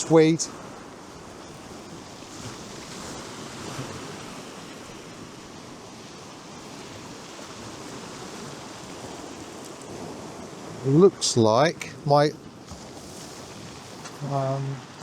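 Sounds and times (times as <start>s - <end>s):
sea surf washing onto beach: 0.0s - 15.0s
wind blowing: 0.0s - 15.0s.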